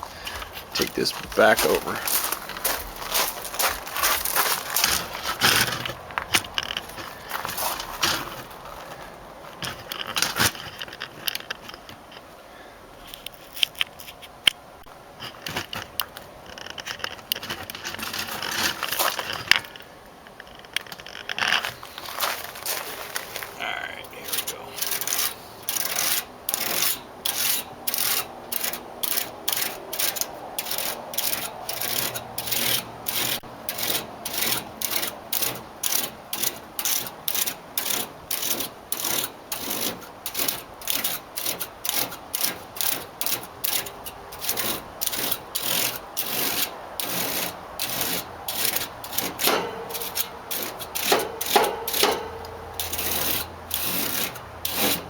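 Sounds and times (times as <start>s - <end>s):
comb scraping metal fins: 0.0s - 12.4s, 13.0s - 55.0s.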